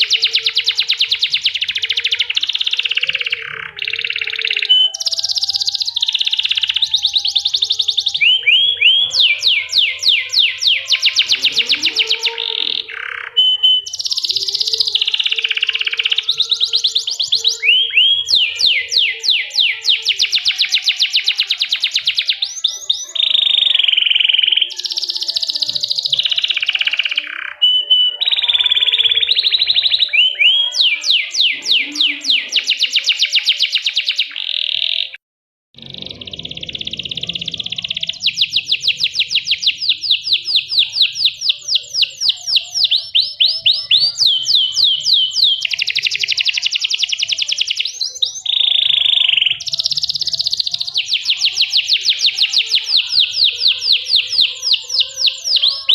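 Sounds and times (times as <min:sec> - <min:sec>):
canary singing trills: 0:00.0 - 0:35.2, 0:35.8 - 0:55.9.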